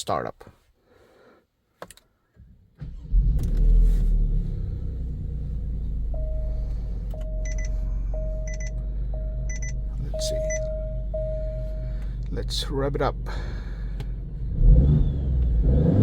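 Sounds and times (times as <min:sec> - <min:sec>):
car engine starting and idling: 0:02.4 - 0:16.0.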